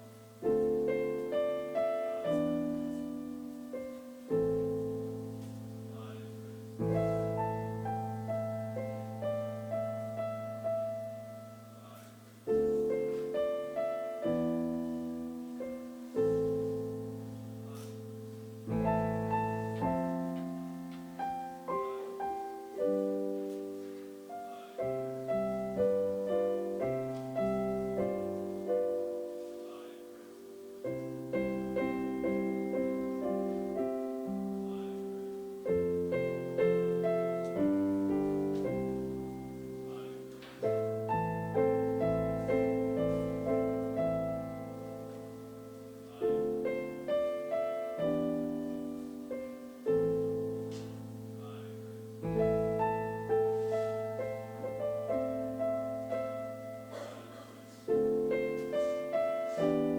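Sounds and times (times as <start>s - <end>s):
slow piano chords: 0.0s - 59.9s.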